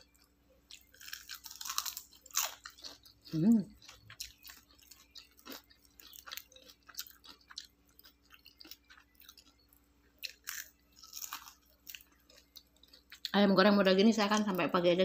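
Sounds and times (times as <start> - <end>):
person chewing crispy chicken: 0.0 - 13.4.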